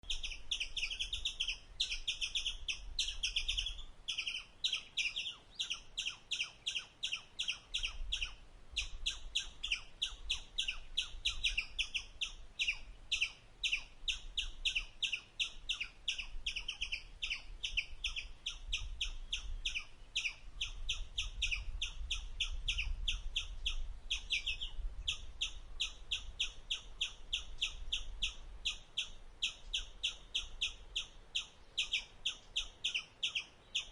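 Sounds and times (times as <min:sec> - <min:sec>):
squirrel chirping: 0:00.0 - 0:33.9.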